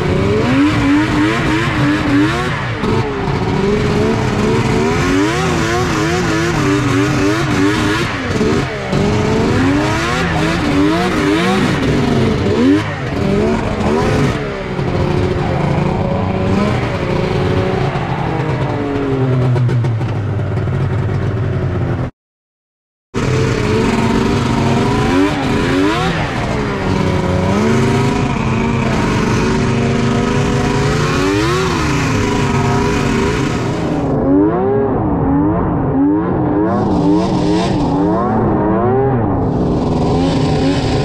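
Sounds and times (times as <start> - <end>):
snowmobile engine revving: 0.0 - 21.9, 23.2 - 41.0.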